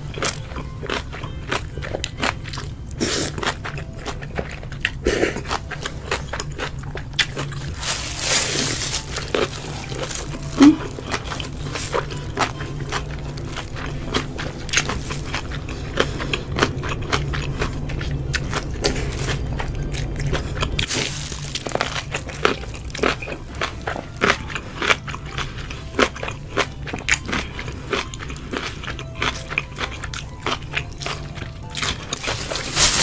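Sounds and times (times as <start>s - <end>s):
low steady hum: 0.0s - 33.0s
person chewing crunchy food: 0.0s - 33.0s.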